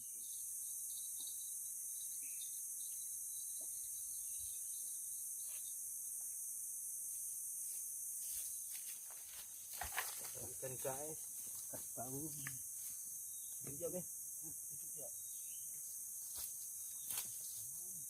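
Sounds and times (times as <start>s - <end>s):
crickets and insects chirping: 0.0s - 18.0s.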